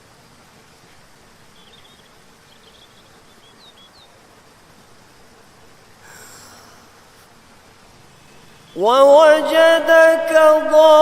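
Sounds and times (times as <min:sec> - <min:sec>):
steady background hiss: 0:00.0 - 0:11.0
songbird chirping: 0:00.7 - 0:11.0.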